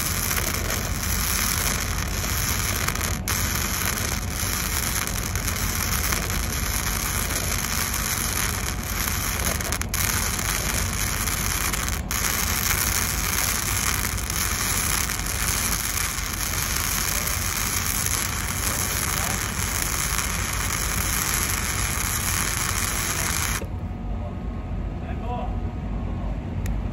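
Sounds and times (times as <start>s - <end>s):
welding arc crackling sizzle: 0.0s - 23.8s.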